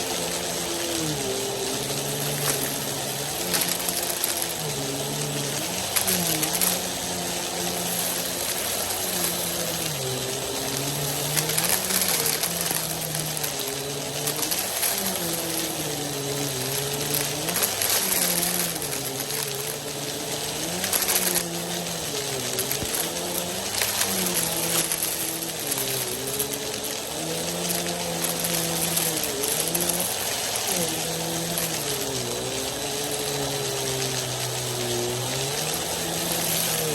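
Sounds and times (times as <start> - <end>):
dry food rattling through vacuum: 0.0 - 36.9
vacuum cleaner motor hum: 0.0 - 36.9.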